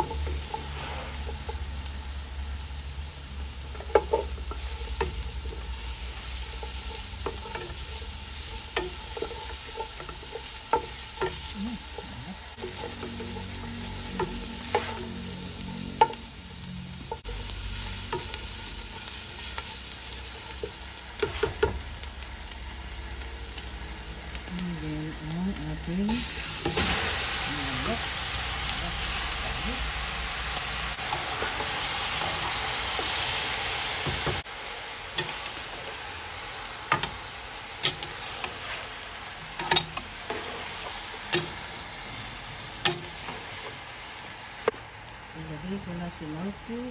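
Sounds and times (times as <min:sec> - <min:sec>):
onion sizzling in a pot: 0:00.0 - 0:46.9.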